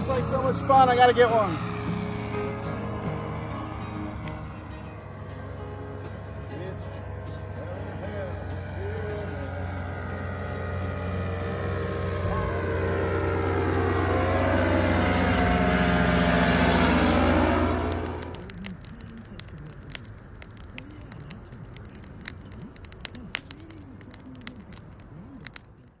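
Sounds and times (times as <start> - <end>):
aircraft engine and propeller droning: 0.0 - 25.7
campfire crackling and popping: 0.0 - 26.0.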